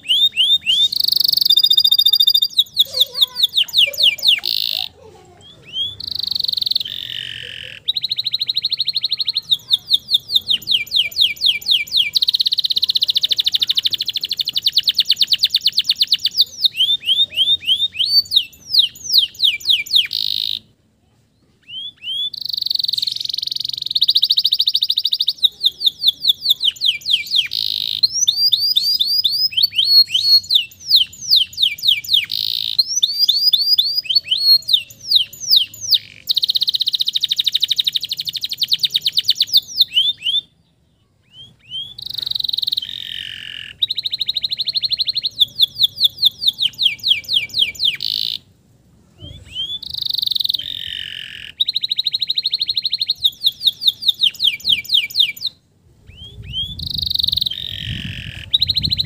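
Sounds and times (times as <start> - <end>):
canary singing trills: 0.0 - 20.8, 21.4 - 59.0.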